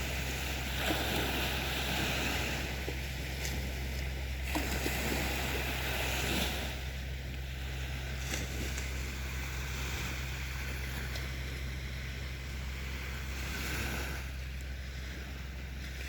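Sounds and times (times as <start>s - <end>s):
sea waves washing ashore: 0.0s - 16.0s
steady low rumble: 0.0s - 16.0s.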